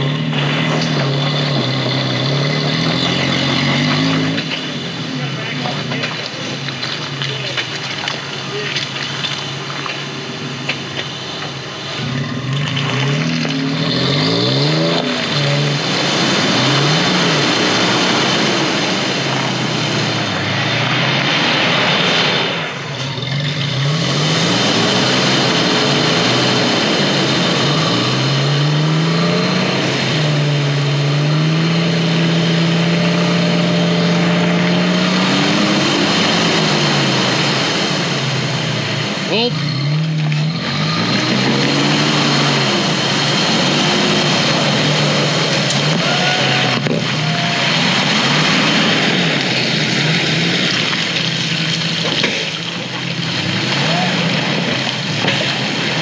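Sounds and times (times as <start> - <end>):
off-road vehicle engine revving: 0.0 - 56.0.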